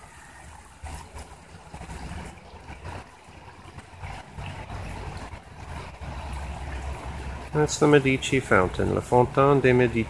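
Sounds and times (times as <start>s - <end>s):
water spilling over fountain: 0.0s - 10.0s.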